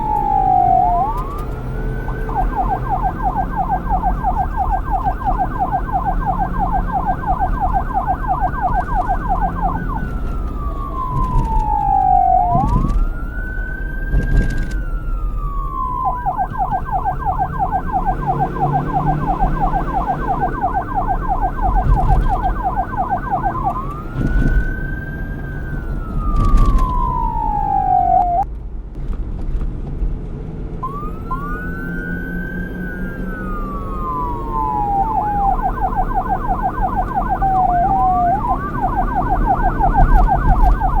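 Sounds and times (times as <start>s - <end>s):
police siren yelp and wail: 0.0s - 28.5s, 30.8s - 41.0s.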